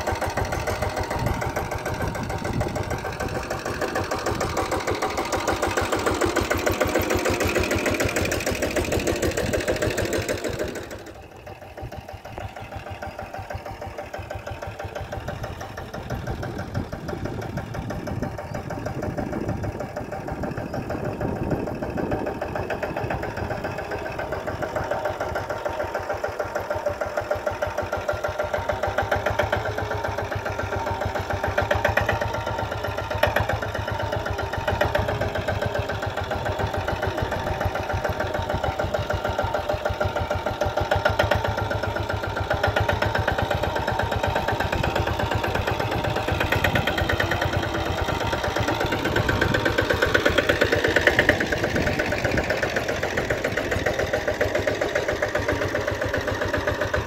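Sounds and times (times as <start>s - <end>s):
tractor engine chugging: 0.0s - 57.0s.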